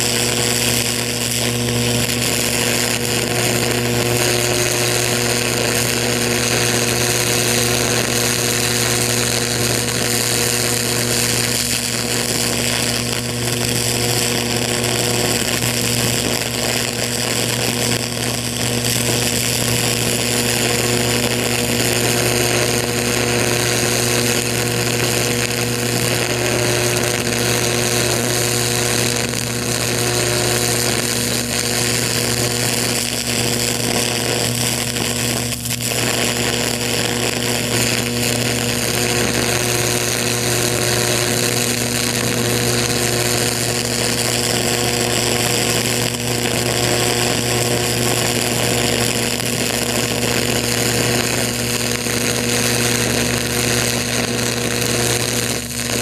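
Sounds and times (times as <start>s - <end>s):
electric arc buzzing hiss: 0.0s - 56.0s.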